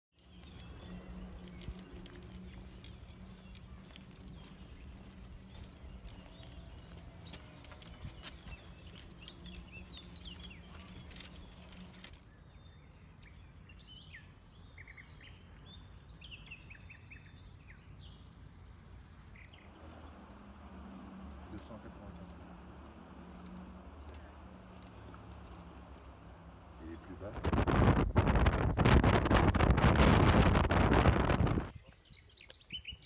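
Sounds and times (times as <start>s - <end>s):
small birds twittering: 0.2s - 27.5s, 31.8s - 33.0s.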